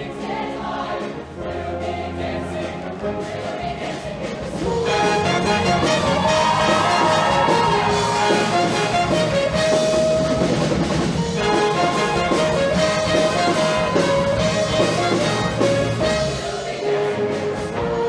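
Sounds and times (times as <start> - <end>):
live band with brass and drums: 3.0 - 18.0.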